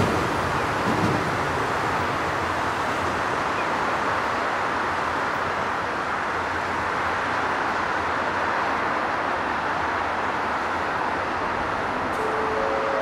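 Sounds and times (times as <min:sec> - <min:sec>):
electric train rumble and hiss: 0:00.0 - 0:13.0.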